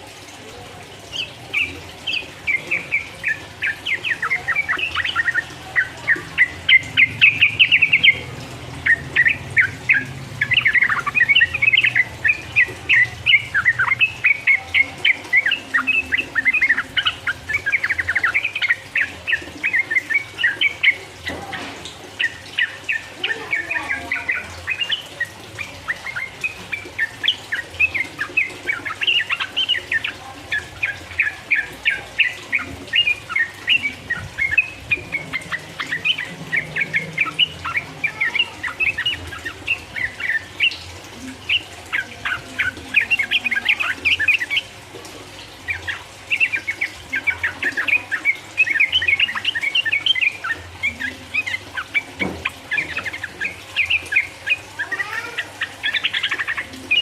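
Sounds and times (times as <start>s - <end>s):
bulbul singing rapid chattering notes: 0.0s - 57.0s.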